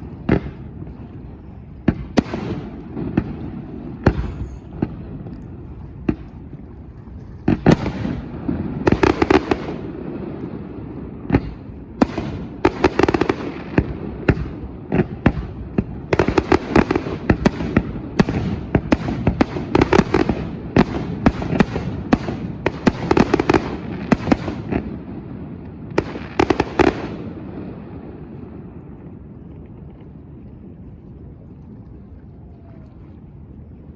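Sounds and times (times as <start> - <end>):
fireworks bangs and crackling: 0.0 - 6.6, 7.4 - 30.4.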